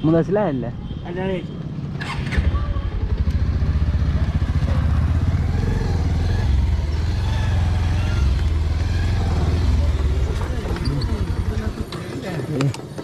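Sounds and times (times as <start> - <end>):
motorcycle engine low speed: 1.6 - 13.0.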